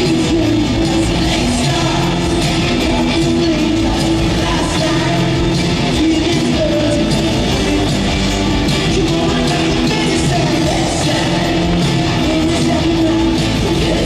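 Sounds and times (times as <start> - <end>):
electric guitar: 0.0 - 14.0
live rock band playing: 0.0 - 14.0
person singing: 0.0 - 14.0.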